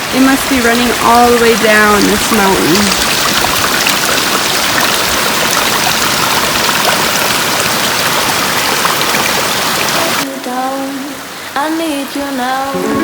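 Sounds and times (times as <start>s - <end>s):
stream rushing water: 0.0s - 13.0s.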